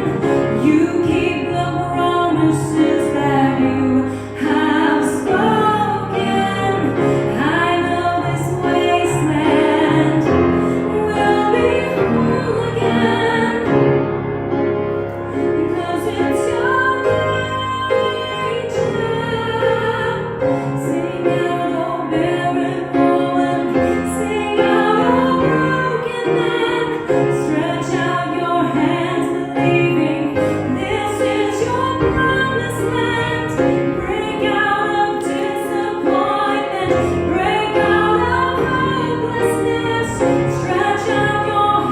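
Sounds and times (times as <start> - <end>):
woman singing: 0.0 - 13.8, 15.3 - 41.9.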